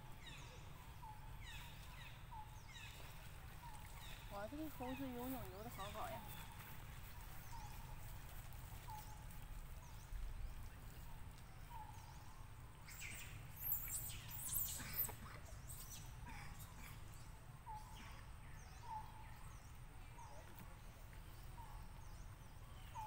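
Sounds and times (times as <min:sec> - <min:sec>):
birds chirping: 0:00.1 - 0:08.0, 0:08.8 - 0:23.0.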